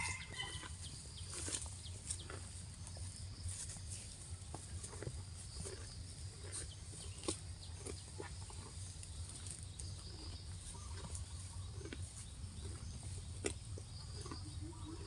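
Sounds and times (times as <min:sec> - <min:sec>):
cow tearing and chewing grass: 0:00.0 - 0:15.0.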